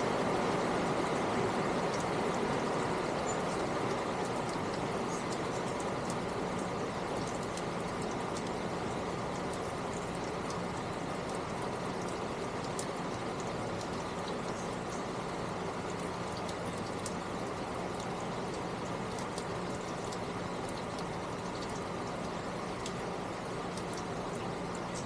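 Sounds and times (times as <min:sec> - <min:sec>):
low steady hum: 0:00.0 - 0:25.0
trickling water: 0:00.0 - 0:25.0.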